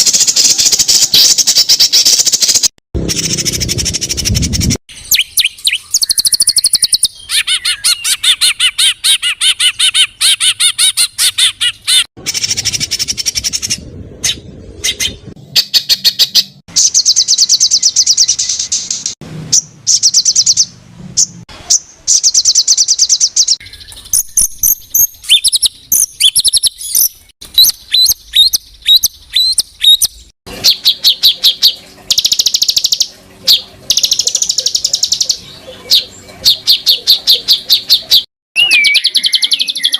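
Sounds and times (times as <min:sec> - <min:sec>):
songbird trills and chattering: 0:00.0 - 0:19.0, 0:19.6 - 0:39.9.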